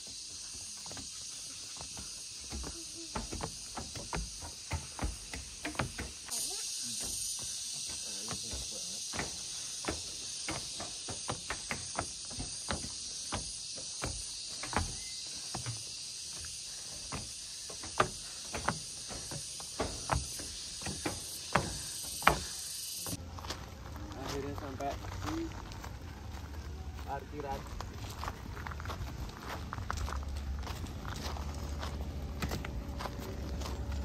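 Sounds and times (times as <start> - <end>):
footsteps on stairs: 0.0 - 34.0
insects chirring: 0.0 - 34.0.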